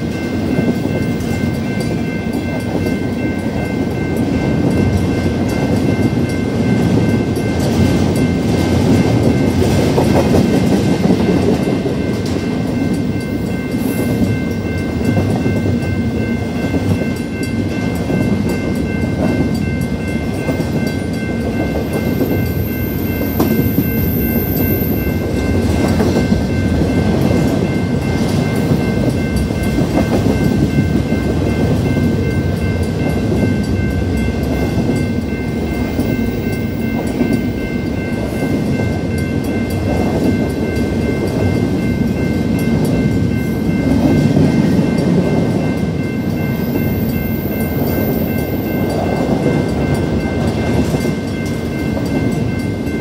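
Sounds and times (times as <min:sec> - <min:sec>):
crossing bell ringing: 0:00.0 - 0:53.0
freight train wheels rumbling on rail: 0:00.0 - 0:53.0.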